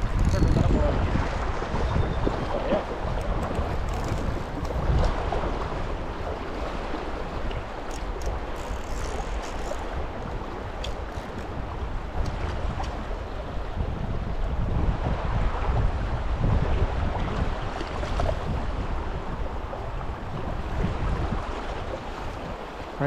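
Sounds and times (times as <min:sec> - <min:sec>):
stream water rushing: 0:00.0 - 0:23.0
wind buffeting microphone: 0:00.0 - 0:23.0.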